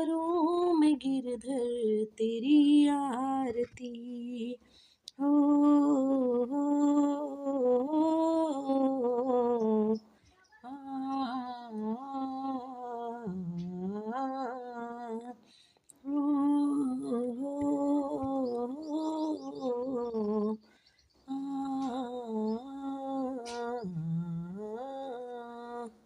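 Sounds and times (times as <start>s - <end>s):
person humming a melody: 0.0s - 10.0s, 10.6s - 15.4s, 16.0s - 20.6s, 21.3s - 26.0s.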